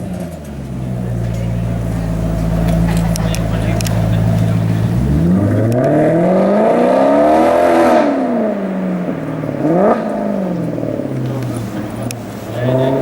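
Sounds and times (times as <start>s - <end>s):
car exhaust accelerating: 0.0s - 13.0s.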